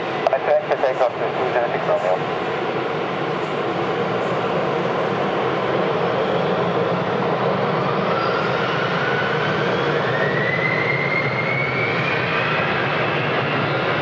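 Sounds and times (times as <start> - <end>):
jet engines rushing: 0.0 - 14.0
turbine whine rising in pitch: 2.7 - 14.0.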